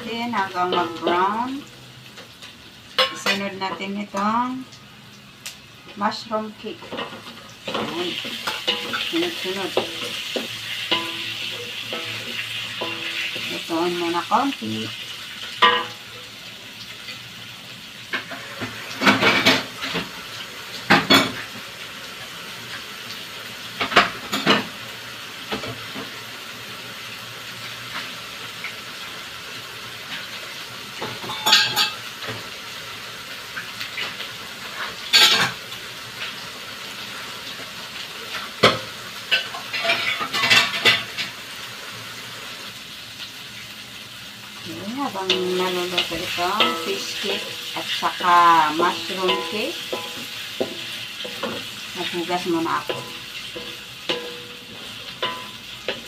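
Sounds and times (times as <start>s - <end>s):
food sizzling in a wok: 0.0s - 56.0s.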